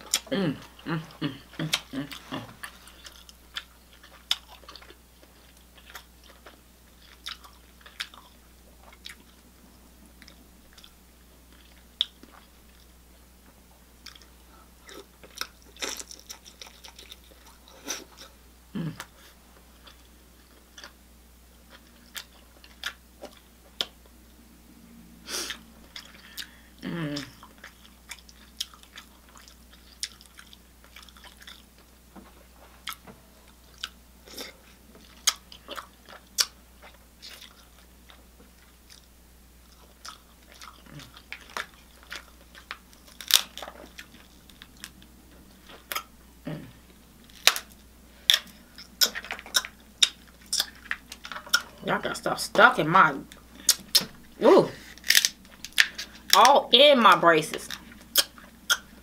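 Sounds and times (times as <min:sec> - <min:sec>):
close chewing food: 0:00.0 - 0:09.5, 0:10.2 - 0:13.0, 0:14.0 - 0:18.4, 0:19.0 - 0:24.1, 0:25.5 - 0:46.1, 0:46.8 - 0:51.8.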